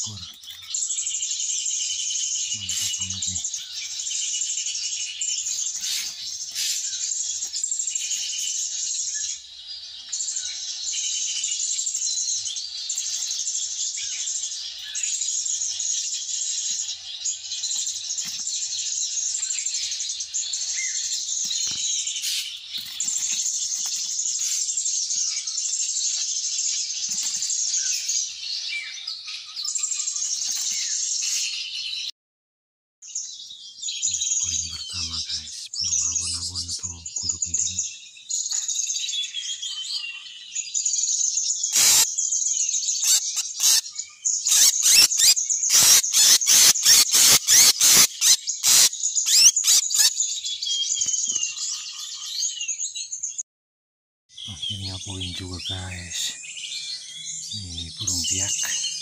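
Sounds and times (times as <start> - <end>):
chorus of forest insects: 0.0 - 31.5, 34.0 - 38.7, 41.6 - 50.5, 54.4 - 59.0
bird chirps: 0.0 - 32.1, 33.0 - 53.4, 54.3 - 59.0.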